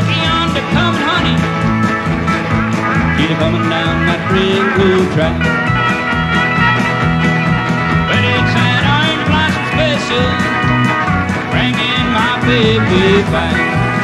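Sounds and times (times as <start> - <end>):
bass and rhythm: 0.0 - 14.0
steel guitar sliding notes: 0.0 - 14.0.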